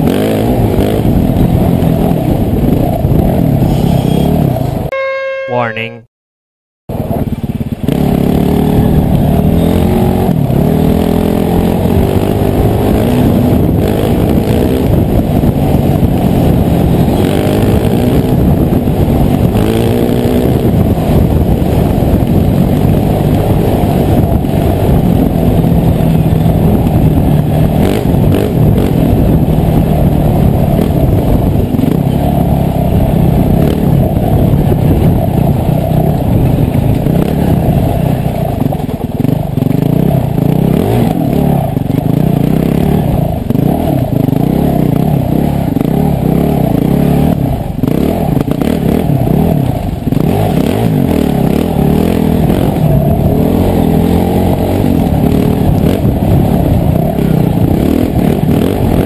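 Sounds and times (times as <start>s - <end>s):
dirt bike engine revving: 0.0s - 4.9s, 6.9s - 59.0s.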